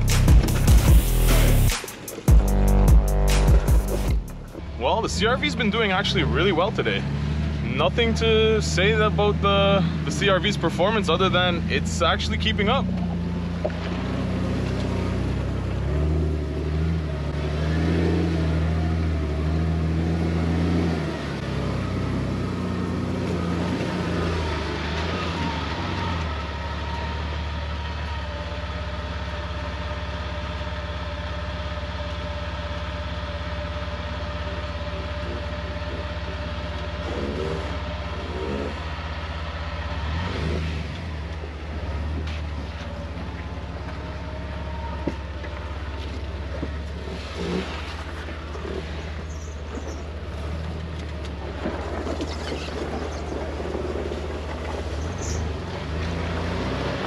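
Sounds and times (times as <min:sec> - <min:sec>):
off-road vehicle engine: 0:00.0 - 0:57.0.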